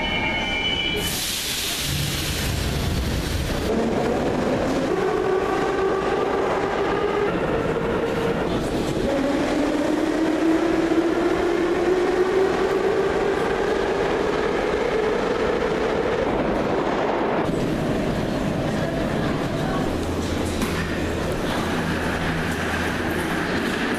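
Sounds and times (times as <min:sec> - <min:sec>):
train wheels rumbling: 0:01.0 - 0:23.9.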